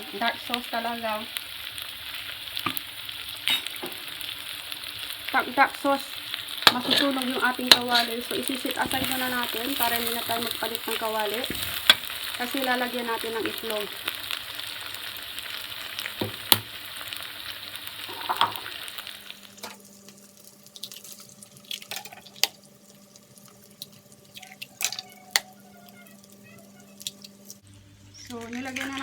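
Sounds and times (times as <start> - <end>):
food sizzling in a wok: 0.0 - 28.1.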